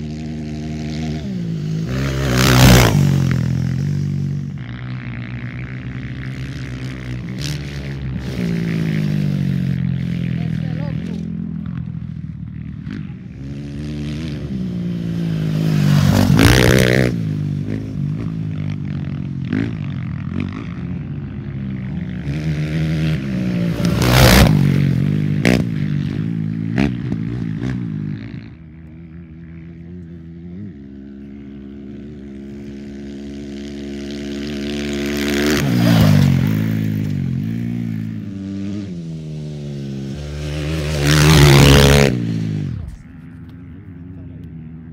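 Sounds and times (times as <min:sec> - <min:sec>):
dirt bikes revving past: 0:00.0 - 0:44.9
distant engine drone: 0:00.0 - 0:44.9.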